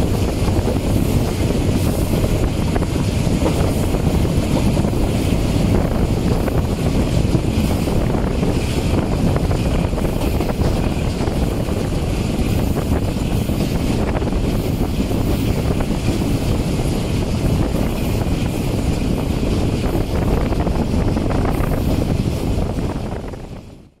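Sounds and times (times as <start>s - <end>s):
train wheels rumbling on rails: 0.0s - 24.0s
wind rushing: 0.0s - 24.0s.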